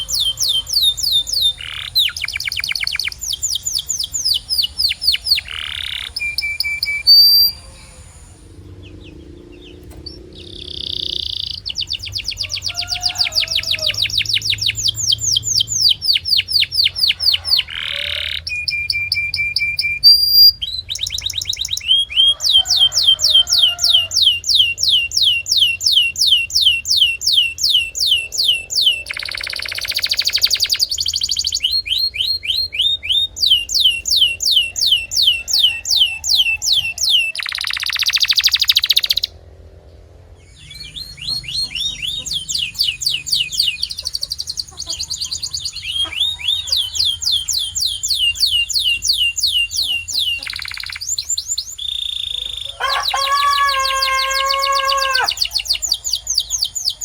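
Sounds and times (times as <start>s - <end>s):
canary singing whistles: 0.0s - 39.3s, 40.5s - 57.0s.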